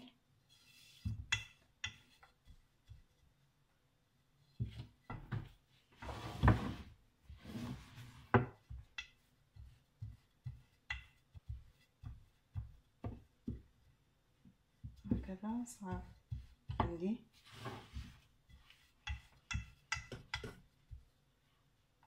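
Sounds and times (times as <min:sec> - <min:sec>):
rolling pin swishing over dough: 0:00.4 - 0:03.6, 0:04.4 - 0:22.0.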